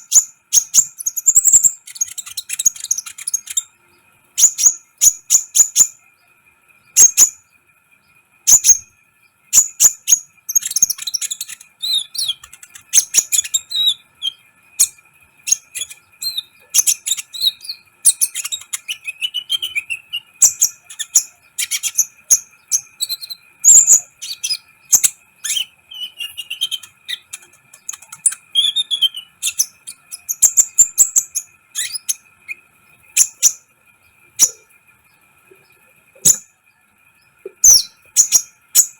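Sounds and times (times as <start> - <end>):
bird chirping and twittering: 0.0 - 38.9
faint high hum: 0.0 - 38.9.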